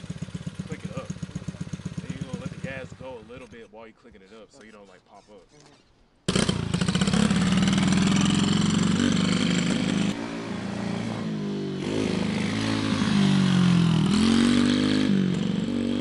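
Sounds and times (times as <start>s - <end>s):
dirt bike engine revving: 0.0s - 3.7s, 6.3s - 16.0s.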